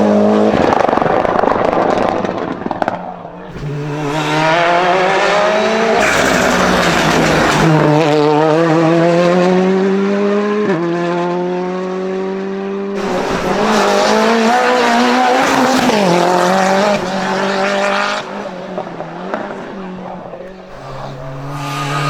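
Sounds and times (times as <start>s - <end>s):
race car engine accelerating: 0.0s - 22.0s.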